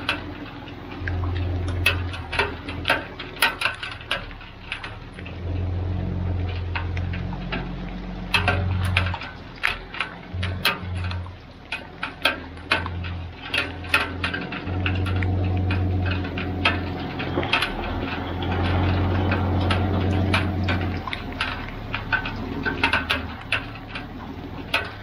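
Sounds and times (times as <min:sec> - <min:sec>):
pickup truck engine hum: 0:00.0 - 0:25.0
rain tapping: 0:00.0 - 0:25.0.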